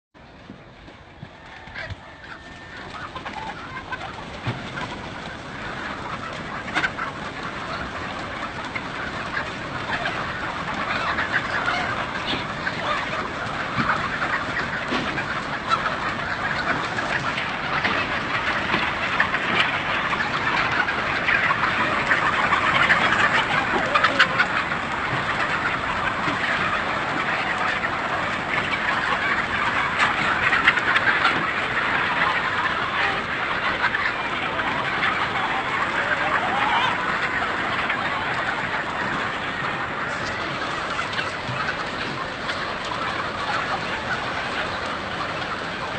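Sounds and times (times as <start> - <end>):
flock of chickens clucking: 0.2 - 45.9.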